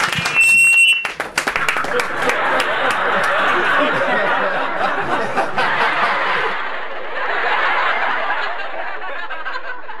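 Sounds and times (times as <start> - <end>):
audience applauding: 0.0 - 8.7
laughter: 1.6 - 10.0.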